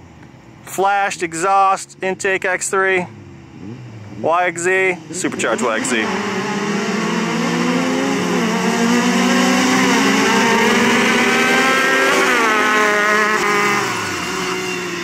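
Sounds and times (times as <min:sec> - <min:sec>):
engines racing: 0:01.0 - 0:15.0.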